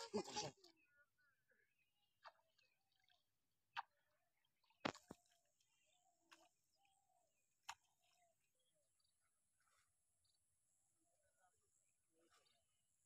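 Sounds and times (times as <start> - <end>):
faint bird chirps: 0.0 - 3.2, 3.8 - 13.0.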